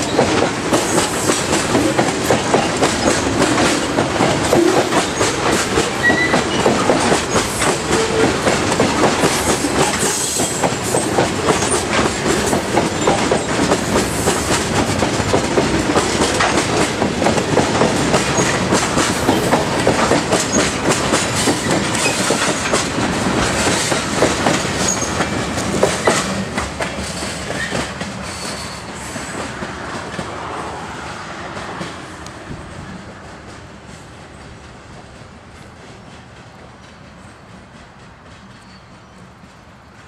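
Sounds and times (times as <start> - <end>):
train wheels clacking: 0.0 - 40.0.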